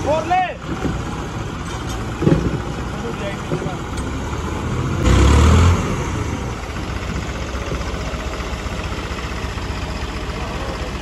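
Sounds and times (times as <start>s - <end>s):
tractor diesel engines idling: 0.0s - 11.0s.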